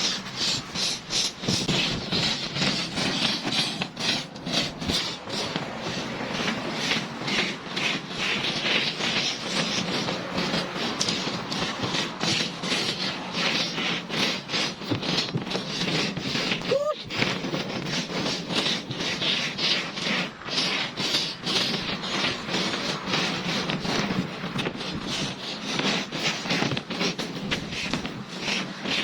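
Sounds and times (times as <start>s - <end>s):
hand tool rasping strokes: 0.0s - 29.0s.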